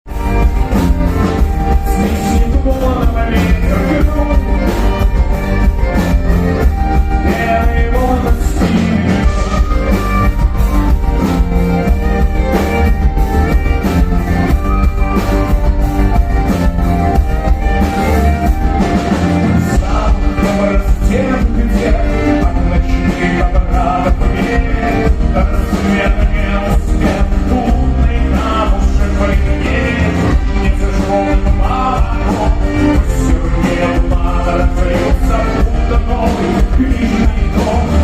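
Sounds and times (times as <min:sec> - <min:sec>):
person singing: 0:00.1 - 0:16.5, 0:17.1 - 0:38.0
folk-rock band playing live: 0:00.1 - 0:38.0
steady drum beat: 0:00.1 - 0:38.0.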